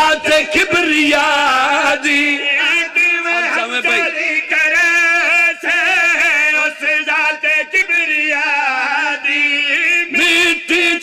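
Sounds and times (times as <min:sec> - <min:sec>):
man chanting melodic recitation: 0:00.0 - 0:11.0.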